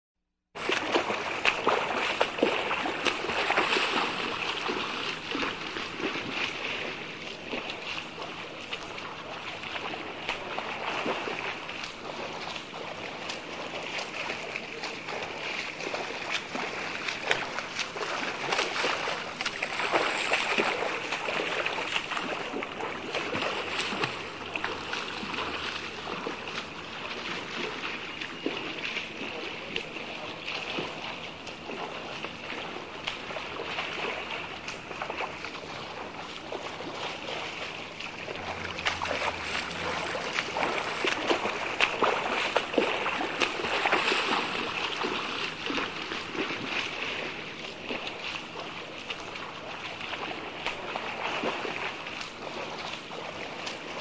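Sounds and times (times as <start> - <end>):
swimmers splashing in water: 0.6 - 54.0.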